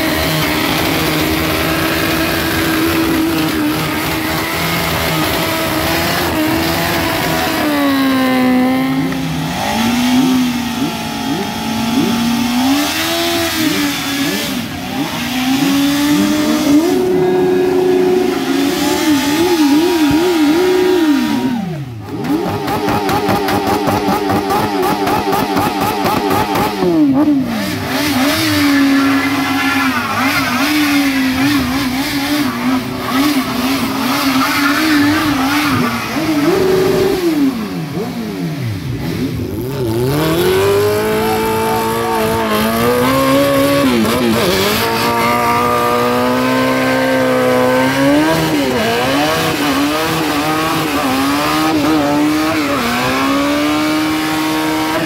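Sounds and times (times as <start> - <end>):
motorcycle engines revving: 0.0 - 55.0.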